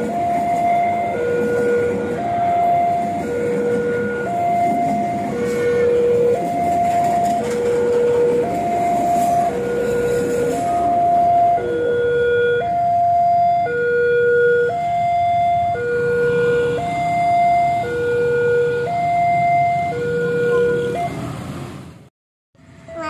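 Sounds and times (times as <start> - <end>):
level crossing two-tone alarm: 0.0 - 21.2
rumble of passing train: 0.0 - 23.0.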